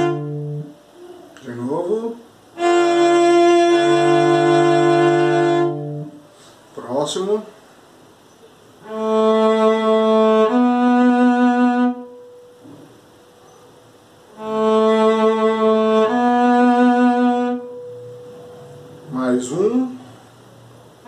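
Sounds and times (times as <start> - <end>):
bowed cello notes: 0.0 - 6.4, 8.8 - 13.0, 14.2 - 21.0.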